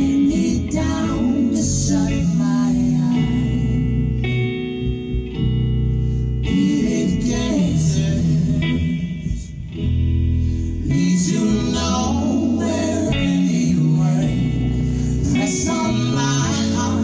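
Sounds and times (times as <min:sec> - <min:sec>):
singers in harmony: 0:00.0 - 0:04.6, 0:06.4 - 0:09.8, 0:10.8 - 0:17.0
plucked guitar: 0:00.0 - 0:17.0.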